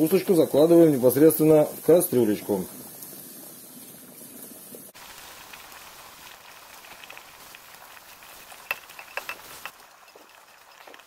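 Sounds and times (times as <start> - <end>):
water boiling in a pot: 0.0 - 11.0.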